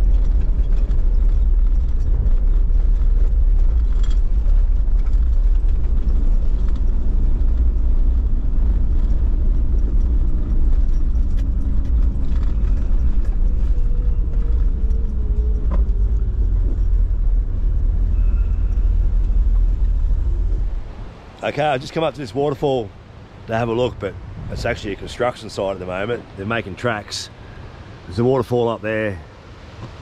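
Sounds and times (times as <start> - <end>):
engine and tyre rumble: 0.0 - 30.0.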